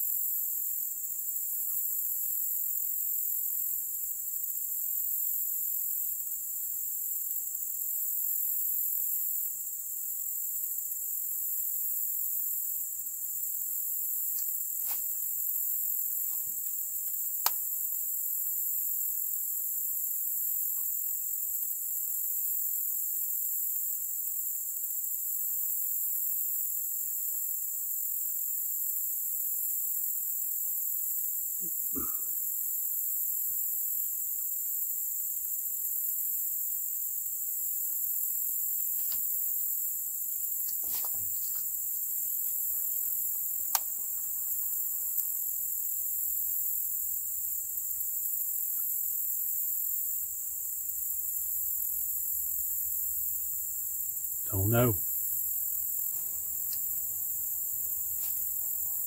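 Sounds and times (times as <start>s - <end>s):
insects chirping: 0.0s - 59.0s.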